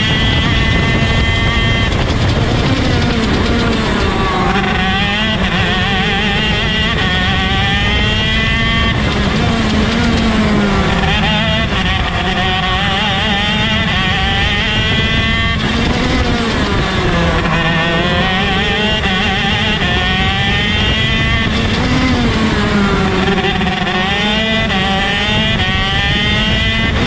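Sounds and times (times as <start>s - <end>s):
kart engine racing: 0.0s - 27.0s.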